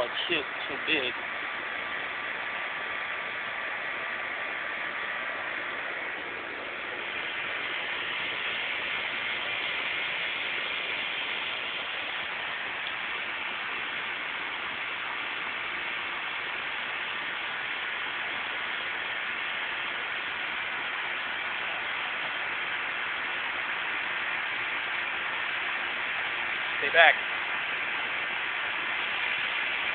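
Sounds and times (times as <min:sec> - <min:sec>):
steady hiss: 0:00.0 - 0:29.9.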